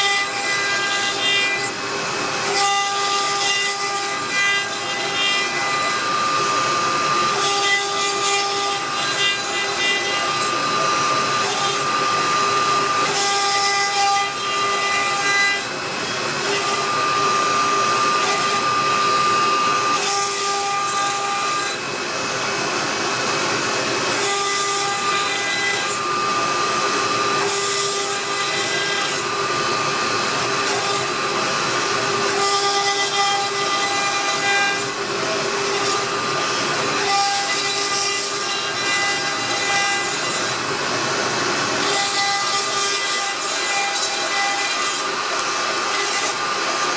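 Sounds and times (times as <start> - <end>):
cnc router whine: 0.0 - 46.9.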